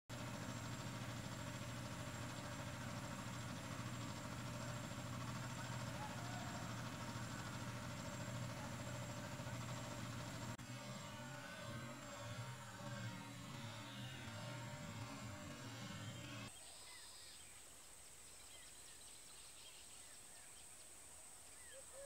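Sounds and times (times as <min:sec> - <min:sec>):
low mechanical hum: 0:00.1 - 0:22.0.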